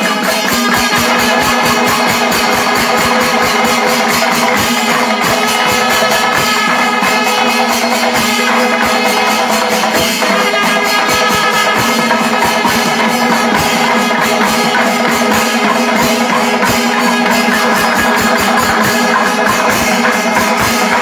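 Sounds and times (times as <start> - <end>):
drums struck fast: 0.0 - 21.0
held horn tone: 0.0 - 21.0
metallic cymbal jingle: 0.0 - 21.0.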